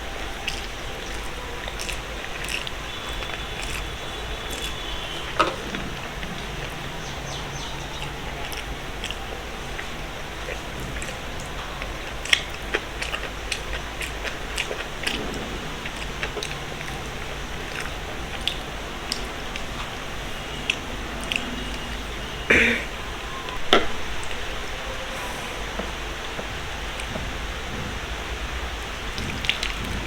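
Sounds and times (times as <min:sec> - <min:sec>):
chewing and wet mouth sounds: 0:00.0 - 0:30.0.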